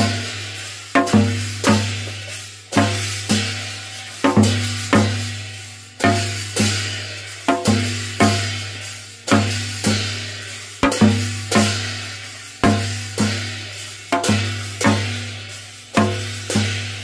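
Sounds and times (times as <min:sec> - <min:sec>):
percussion strikes ringing: 0:00.0 - 0:17.0.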